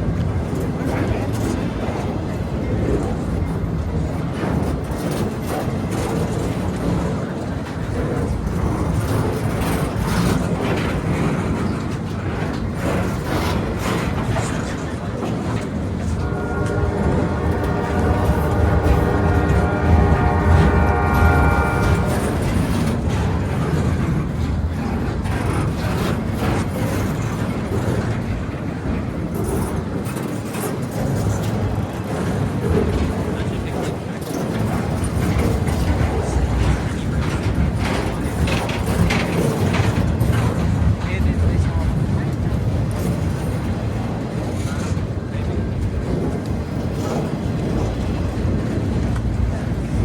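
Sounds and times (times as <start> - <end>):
train wheels rumbling on rails: 0.0 - 50.0
short track clacks: 4.4 - 50.0.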